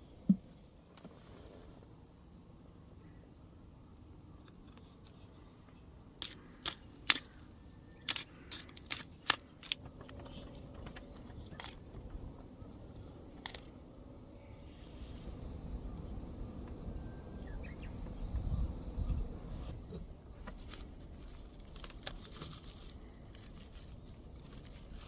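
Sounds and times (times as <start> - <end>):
low outdoor background: 0.0 - 25.0.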